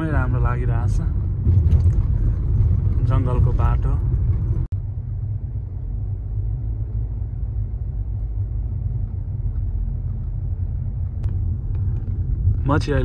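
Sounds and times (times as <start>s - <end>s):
low road rumble in car: 0.0s - 13.0s.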